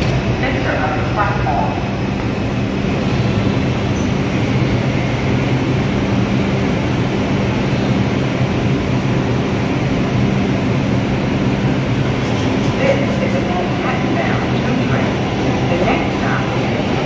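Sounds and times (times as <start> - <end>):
subway train equipment hum: 0.0 - 17.0.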